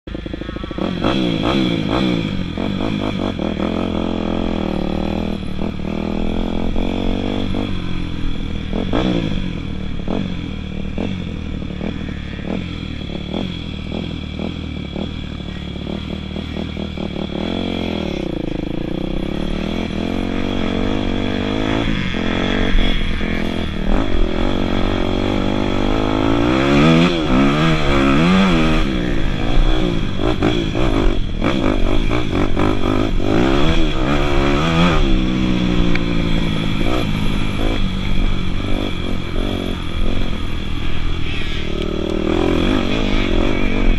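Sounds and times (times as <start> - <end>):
dirt bike engines revving: 0.1 - 43.9.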